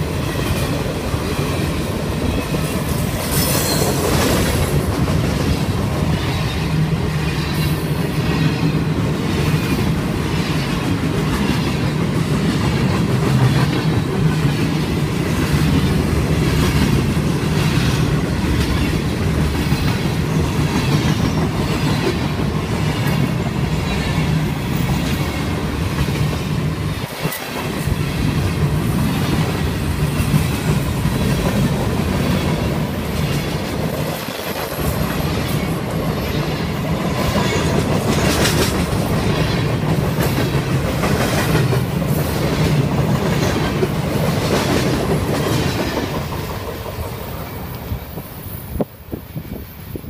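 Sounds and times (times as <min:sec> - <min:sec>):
train wheels rumbling and clicking: 0:00.0 - 0:50.0.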